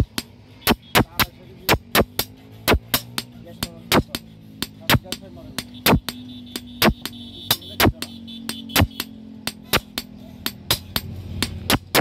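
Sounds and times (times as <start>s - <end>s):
hammer striking iron on anvil: 0.0s - 12.0s.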